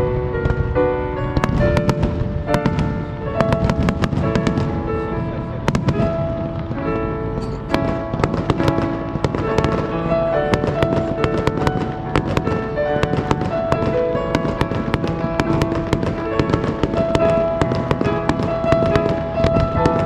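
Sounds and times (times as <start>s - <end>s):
fireworks crackling and popping: 0.0s - 20.0s
music with long held notes: 0.0s - 20.0s.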